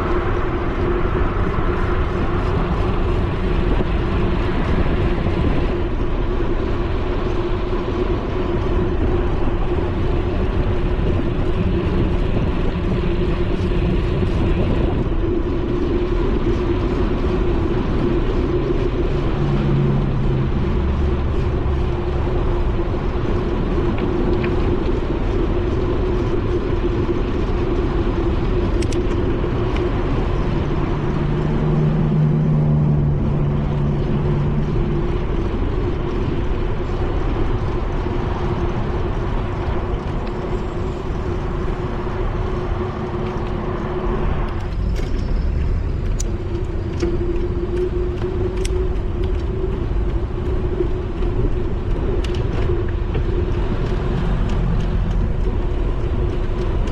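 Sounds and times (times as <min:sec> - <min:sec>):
low hum: 0:00.0 - 0:56.9
wind rushing: 0:00.0 - 0:56.9.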